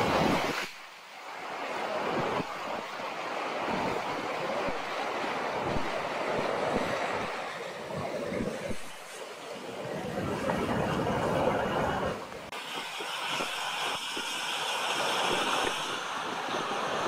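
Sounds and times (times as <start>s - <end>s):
wind bumps on microphone: 0.0s - 0.8s, 3.5s - 9.2s, 9.8s - 17.0s
mountain stream rushing: 0.0s - 17.0s.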